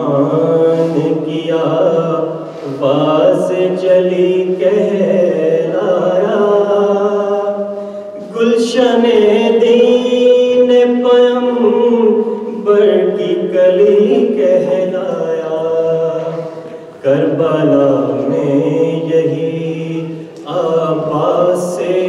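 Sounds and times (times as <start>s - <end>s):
man chanting unaccompanied: 0.0s - 22.0s.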